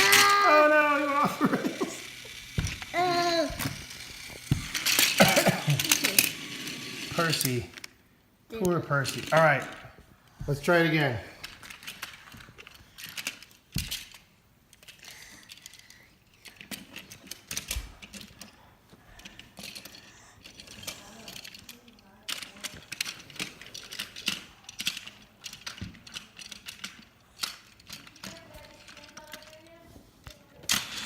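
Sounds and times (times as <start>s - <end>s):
toy train clattering on wooden track: 0.0s - 31.0s.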